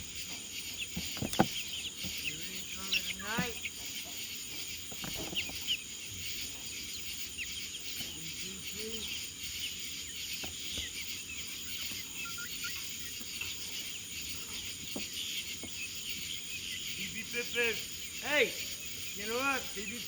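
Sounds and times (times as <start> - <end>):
crickets and insects chirring: 0.0 - 20.0.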